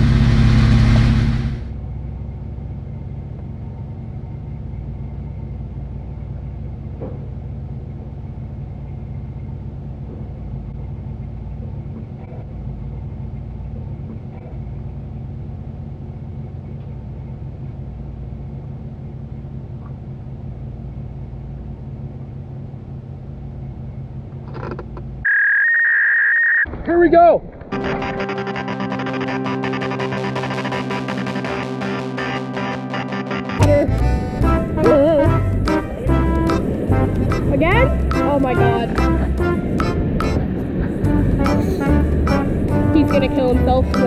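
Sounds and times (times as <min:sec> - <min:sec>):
engine running at low revs: 0:00.0 - 0:25.3, 0:27.6 - 0:44.0.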